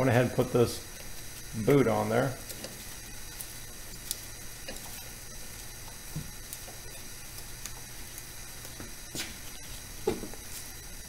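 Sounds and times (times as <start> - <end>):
low hiss and hum: 0.0 - 11.0.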